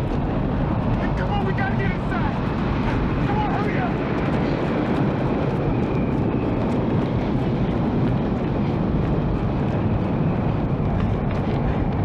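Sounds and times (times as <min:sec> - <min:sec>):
tornado wind roaring: 0:00.0 - 0:12.0.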